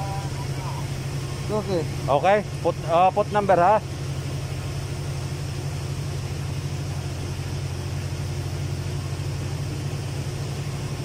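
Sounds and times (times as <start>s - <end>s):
machinery low drone: 0.0s - 11.0s.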